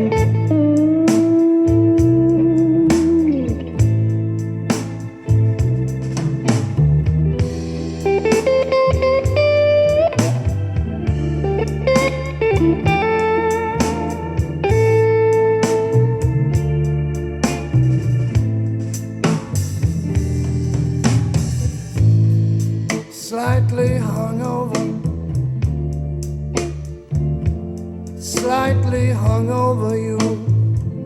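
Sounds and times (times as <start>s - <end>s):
blues-rock song over loudspeaker: 0.0s - 31.0s
electric guitar bending notes: 0.0s - 31.0s.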